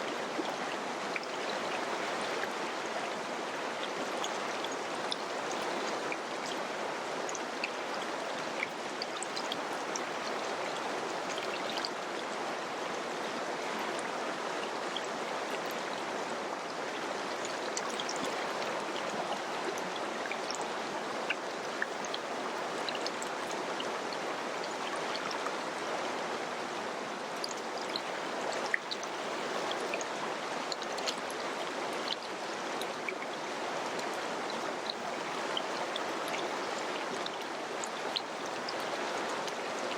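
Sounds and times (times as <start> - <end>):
small splashes and trickles: 0.0 - 39.9.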